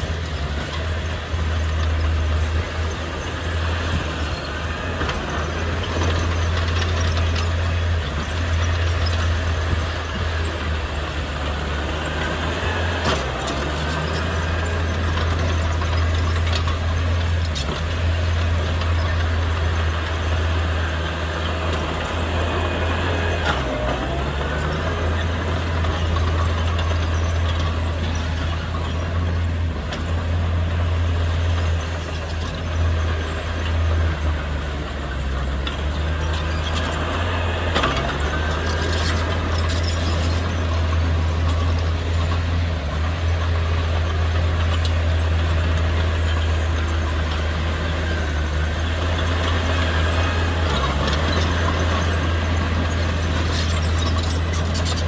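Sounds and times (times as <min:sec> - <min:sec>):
heavy diesel engine drone: 0:00.0 - 0:55.0.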